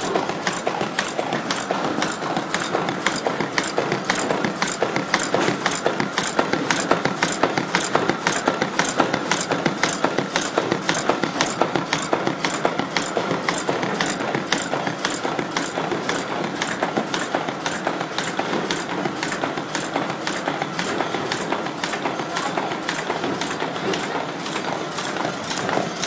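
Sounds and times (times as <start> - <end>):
machine belts and rollers whirring: 0.0 - 26.0
regular machine clacking: 0.0 - 26.0.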